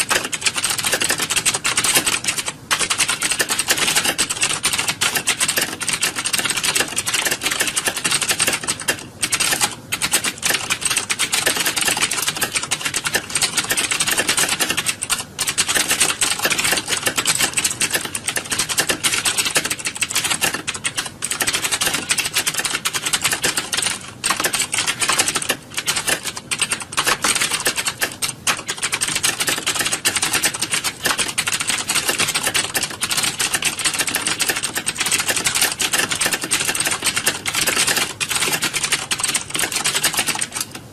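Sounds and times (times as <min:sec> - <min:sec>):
many keyboards typing: 0:00.0 - 0:40.9.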